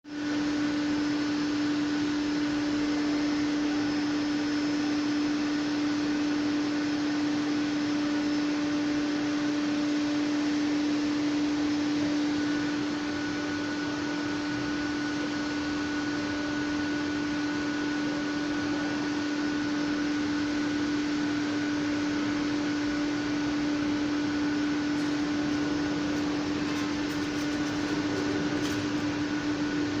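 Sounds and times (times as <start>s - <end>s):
steady machine hum: 0.1s - 30.0s.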